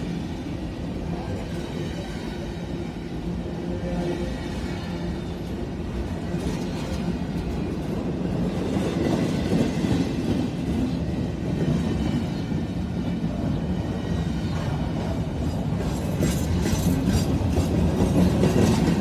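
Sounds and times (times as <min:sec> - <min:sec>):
clickety-clack of train cars: 0:00.0 - 0:19.0
steel wheels rumbling on rail: 0:00.0 - 0:19.0.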